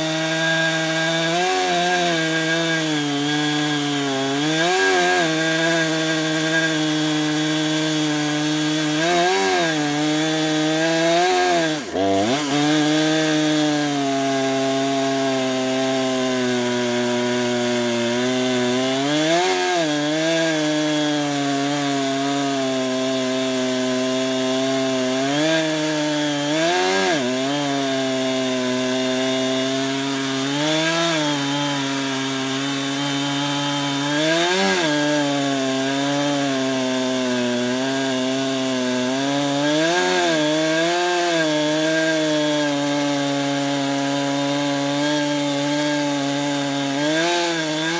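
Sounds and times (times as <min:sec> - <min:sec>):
chainsaw cutting log: 0:00.0 - 0:47.9.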